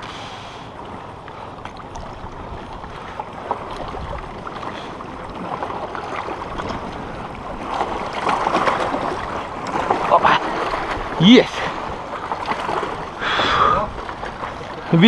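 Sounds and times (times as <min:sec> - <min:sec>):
river water lapping on rocks: 0:00.0 - 0:15.0.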